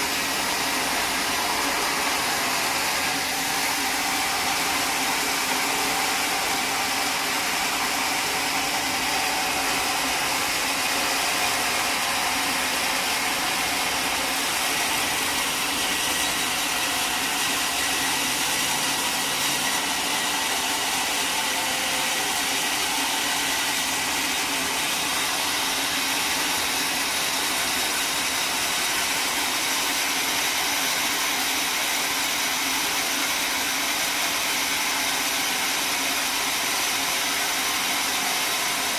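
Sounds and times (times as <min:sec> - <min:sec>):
sawmill saw running: 0:00.0 - 0:38.9.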